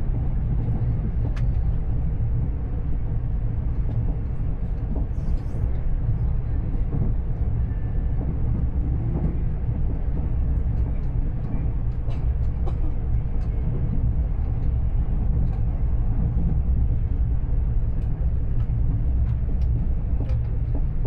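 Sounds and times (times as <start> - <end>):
train rumble from inside carriage: 0.0 - 21.0.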